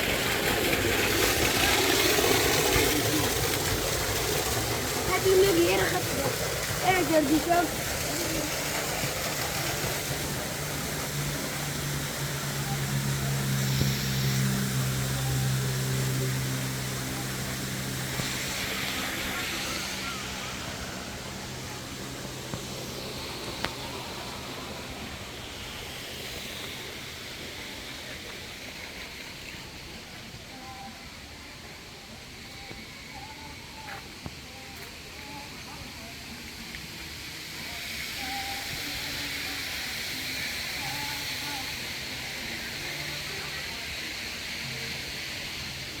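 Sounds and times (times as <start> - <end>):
engine humming: 0.0 - 46.0
steady hiss: 0.0 - 46.0
steady rushing outdoor noise: 0.0 - 46.0.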